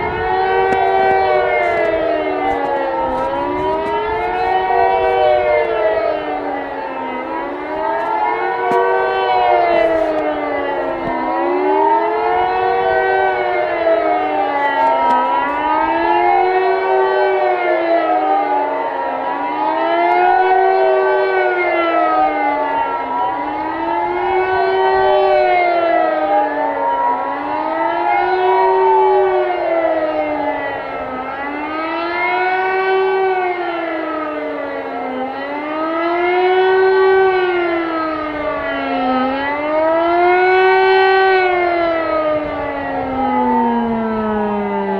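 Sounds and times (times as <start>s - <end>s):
wailing sirens rising and falling: 0.0s - 44.9s.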